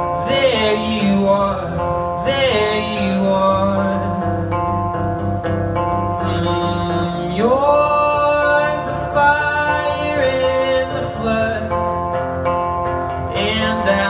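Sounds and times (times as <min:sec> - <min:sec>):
man singing: 0:00.0 - 0:04.8, 0:06.0 - 0:12.2, 0:13.1 - 0:14.0
strummed acoustic guitar: 0:00.0 - 0:14.0.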